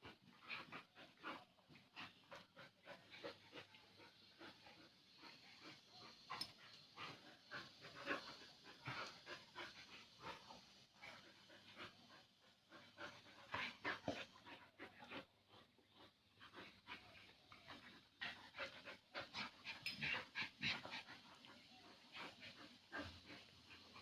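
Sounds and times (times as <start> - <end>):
dogs panting: 0.0 - 24.0.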